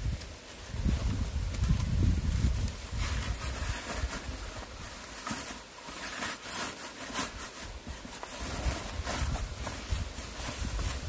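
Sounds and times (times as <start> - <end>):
plastic sack rustling and crinkling: 0.0 - 11.0.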